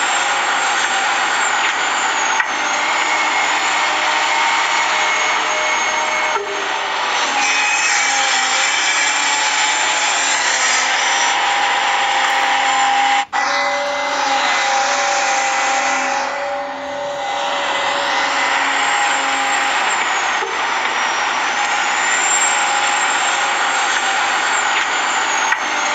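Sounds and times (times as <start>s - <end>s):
small electric motors whining: 0.0s - 25.9s.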